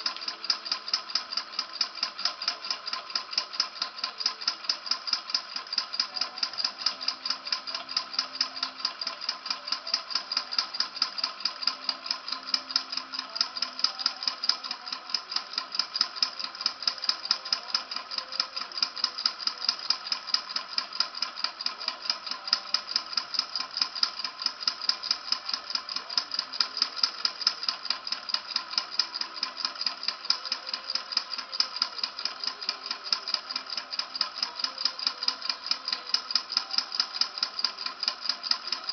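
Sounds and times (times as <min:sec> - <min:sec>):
model engine clicking and rattling: 0:00.0 - 0:38.9.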